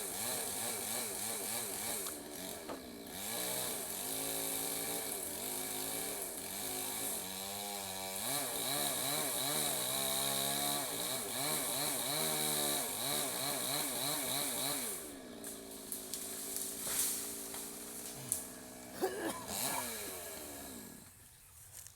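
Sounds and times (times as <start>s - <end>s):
chainsaw cutting: 0.0s - 21.3s.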